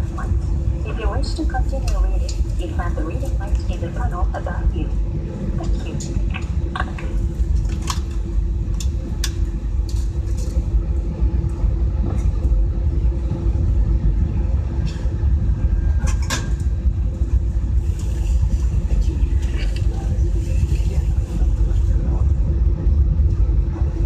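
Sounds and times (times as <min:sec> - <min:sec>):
airliner cabin rumble: 0:00.0 - 0:24.0
constant hum: 0:00.0 - 0:24.0.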